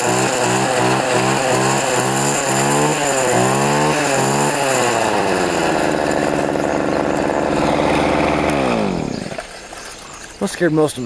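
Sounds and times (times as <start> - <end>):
string trimmer engine revving: 0.0 - 9.8.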